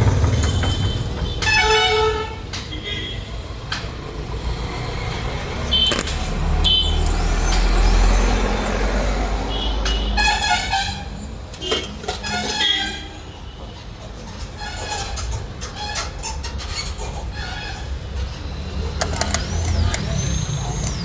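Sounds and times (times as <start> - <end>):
vehicle engine rumble: 0.0 - 12.4, 13.8 - 21.0
street noise: 0.0 - 21.0.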